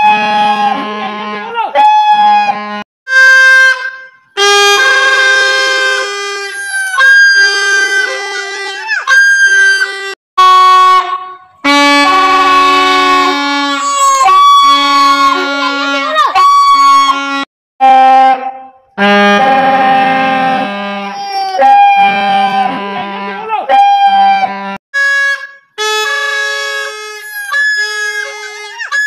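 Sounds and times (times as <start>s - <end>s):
plastic toy trumpets honking: 0.0s - 29.0s.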